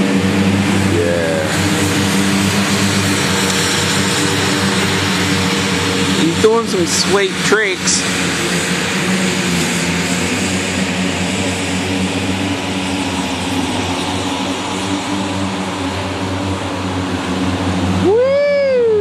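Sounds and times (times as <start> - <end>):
mower engine hum: 0.0 - 19.0
rising and falling tone: 0.0 - 19.0.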